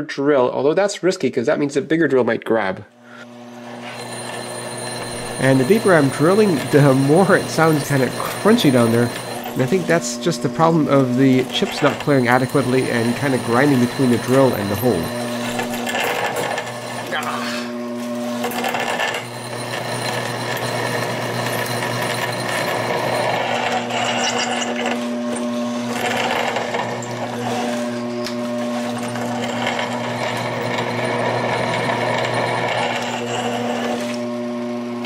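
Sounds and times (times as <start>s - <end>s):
drill grinding into steel: 3.1s - 34.4s
spindle motor running: 3.2s - 35.0s.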